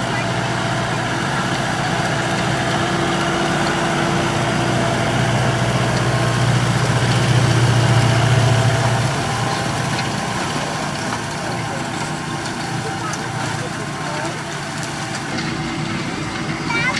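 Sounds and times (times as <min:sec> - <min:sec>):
tractor engine running: 0:00.0 - 0:16.9.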